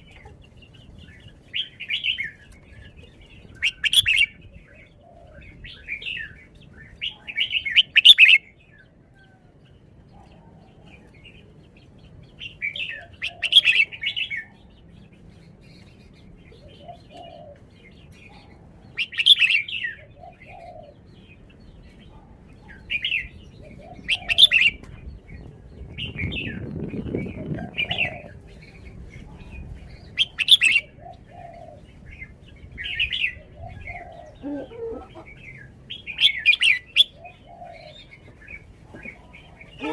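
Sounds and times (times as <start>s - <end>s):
bird singing warbled phrases: 0.0s - 9.0s, 9.6s - 39.9s.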